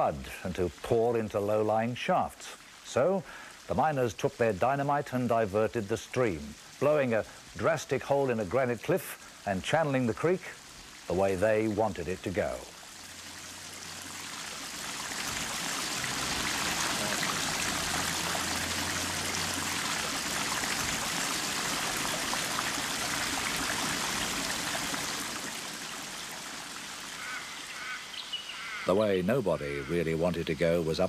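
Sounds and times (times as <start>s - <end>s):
rush of falling water: 0.0s - 31.0s.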